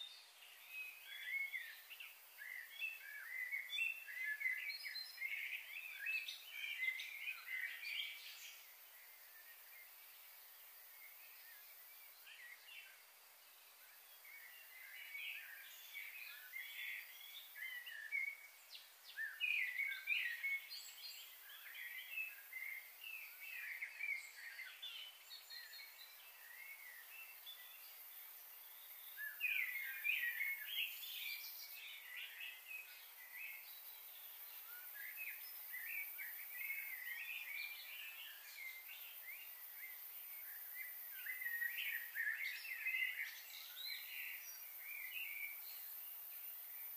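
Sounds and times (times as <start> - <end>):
faint steady hiss: 0.0 - 46.9
small birds chirping: 0.0 - 46.9.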